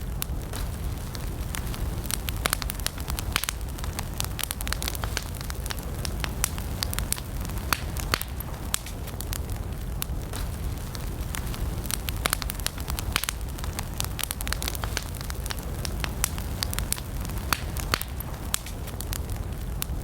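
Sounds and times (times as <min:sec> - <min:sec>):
campfire crackling and popping: 0:00.0 - 0:20.0
low rumble of flame: 0:00.0 - 0:20.0.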